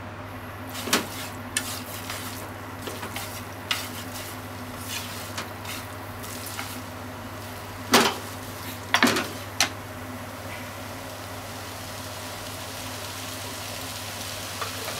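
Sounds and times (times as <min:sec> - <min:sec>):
noodles sizzling in frying pan: 0:00.6 - 0:14.9.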